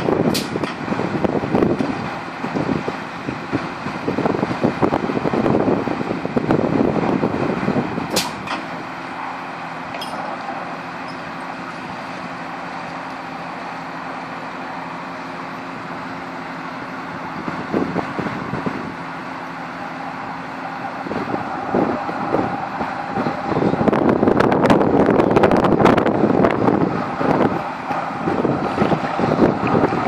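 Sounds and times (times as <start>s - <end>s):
vehicle engine running: 0.0s - 30.0s
wind buffeting microphone: 0.0s - 30.0s.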